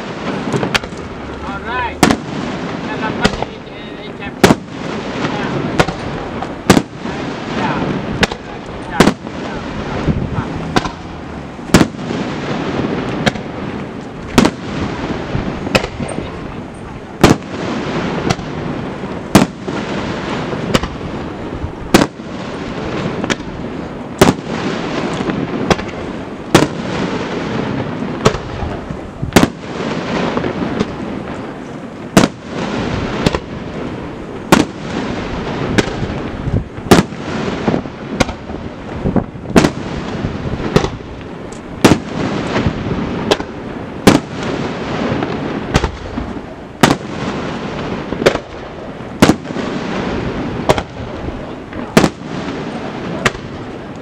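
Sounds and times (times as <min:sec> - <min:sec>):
continuous rumble: 0:00.0 - 0:47.1, 0:47.8 - 0:54.0
firework shells bursting: 0:00.0 - 0:54.0.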